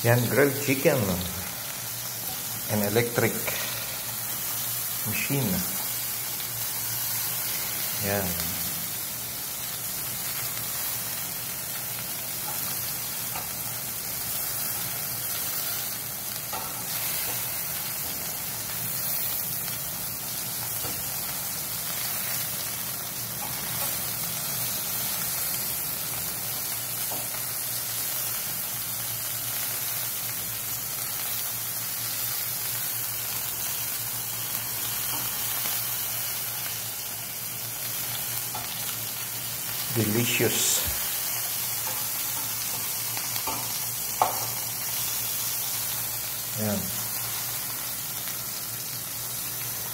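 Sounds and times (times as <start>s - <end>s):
chicken sizzling on a grill: 0.0s - 49.9s.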